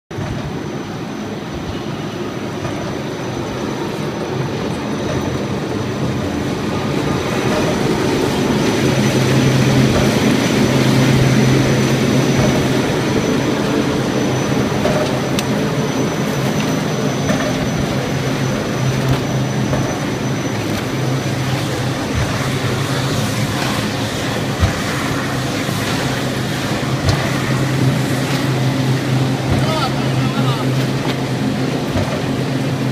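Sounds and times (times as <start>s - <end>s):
machine motors humming: 0.2s - 32.9s.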